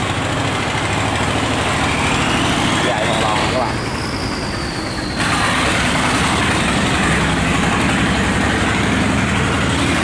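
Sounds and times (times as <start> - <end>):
boat engine running: 0.0 - 10.0
water washing along hull: 0.0 - 10.0.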